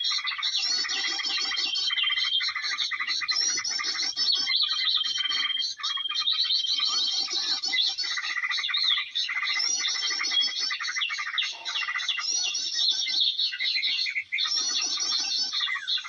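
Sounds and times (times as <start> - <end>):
small birds chattering and chirping: 0.0 - 16.0.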